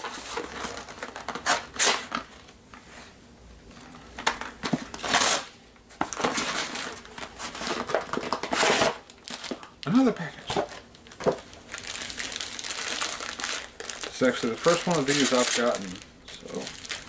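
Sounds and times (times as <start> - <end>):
package crinkling and rustling: 0.0 - 2.7, 3.8 - 17.0.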